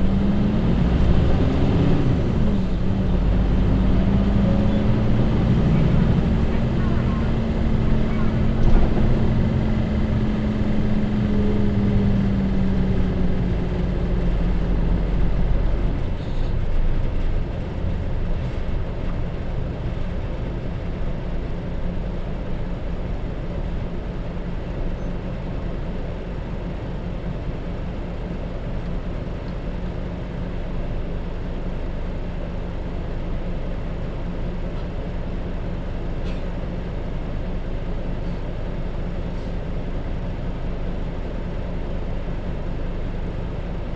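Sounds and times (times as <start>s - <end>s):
bus diesel engine: 0.0s - 43.9s.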